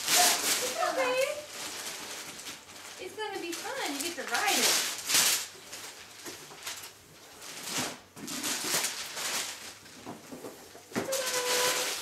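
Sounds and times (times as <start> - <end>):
wrapping paper tearing and crumpling: 0.0 - 12.0.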